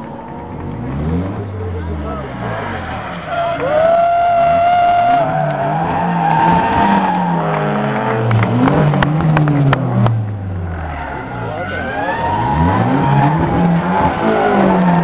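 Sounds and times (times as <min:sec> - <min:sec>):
engine revving: 0:00.3 - 0:15.0.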